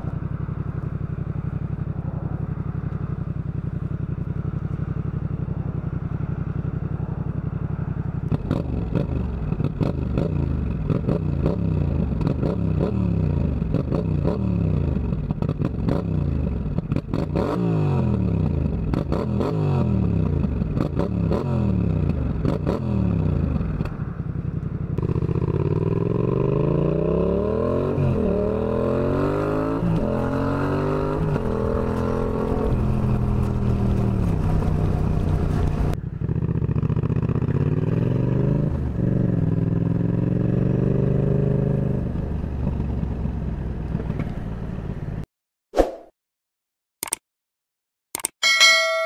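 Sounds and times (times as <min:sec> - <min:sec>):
motorcycle engine revving and accelerating: 0:00.0 - 0:45.2.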